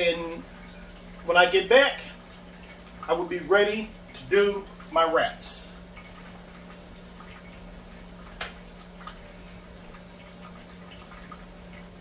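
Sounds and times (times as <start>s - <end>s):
sauce bubbling in a frying pan: 0.0s - 12.0s
steady low hum: 0.0s - 12.0s.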